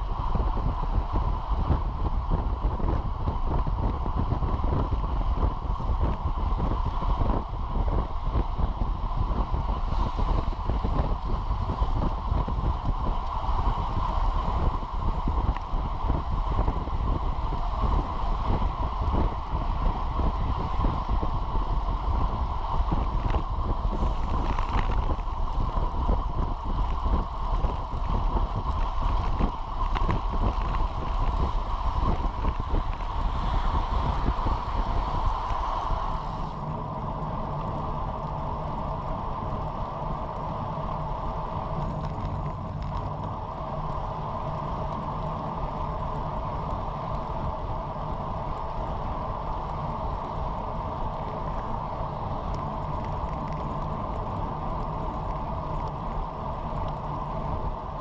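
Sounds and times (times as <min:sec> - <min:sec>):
tyre road noise: 0:00.0 - 0:58.0
wind buffeting microphone: 0:00.0 - 0:58.0.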